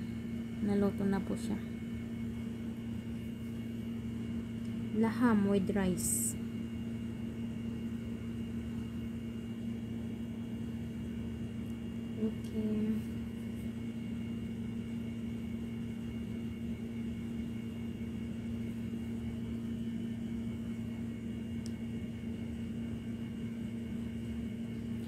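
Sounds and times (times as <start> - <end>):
machine droning hum: 0.0 - 25.0.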